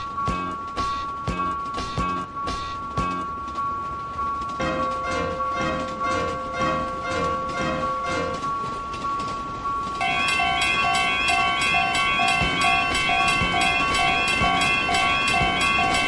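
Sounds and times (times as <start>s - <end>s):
music: 0.0s - 16.0s
railroad crossing warning bell: 0.0s - 16.0s.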